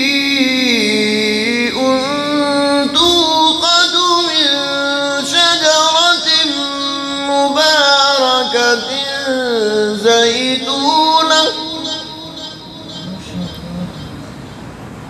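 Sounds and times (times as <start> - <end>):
man reciting melodically: 0.0 - 14.7.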